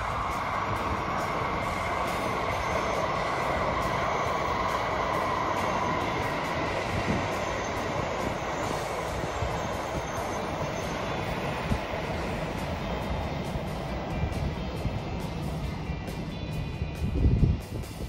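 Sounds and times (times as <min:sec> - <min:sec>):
high-speed train rushing past: 0:00.0 - 0:18.0.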